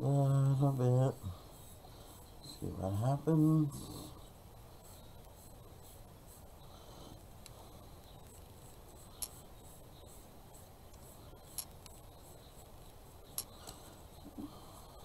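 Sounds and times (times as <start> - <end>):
paintbrush rubbing on wood: 0.0 - 15.0.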